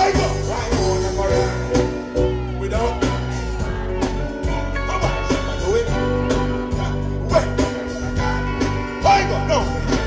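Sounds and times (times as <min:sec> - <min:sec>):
live reggae band: 0:00.0 - 0:10.0.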